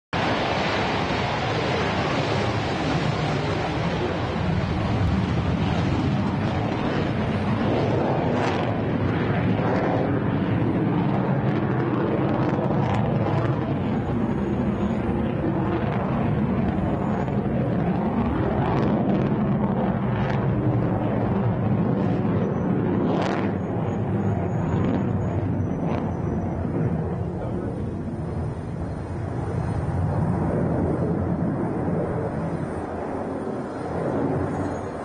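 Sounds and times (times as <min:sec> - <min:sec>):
fighter jet roar: 0:00.2 - 0:35.0.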